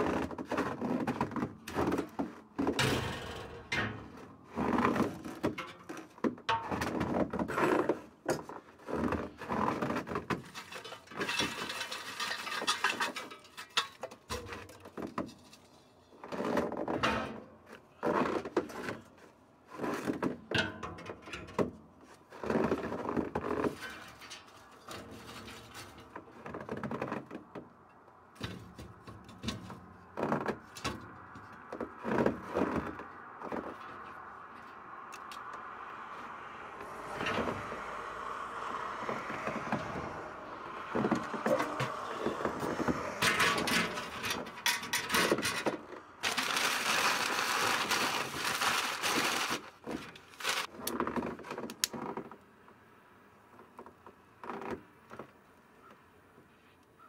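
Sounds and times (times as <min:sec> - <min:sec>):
charcoal clattering and scraping: 0:00.0 - 0:27.4, 0:28.4 - 0:34.2, 0:38.9 - 0:52.0.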